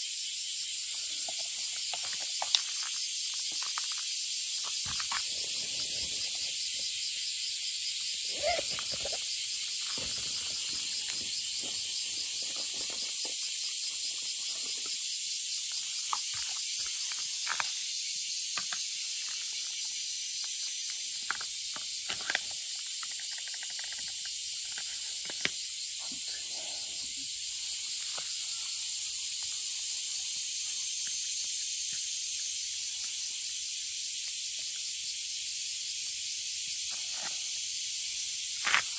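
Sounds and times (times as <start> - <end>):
insect chorus drone: 0.0 - 38.9.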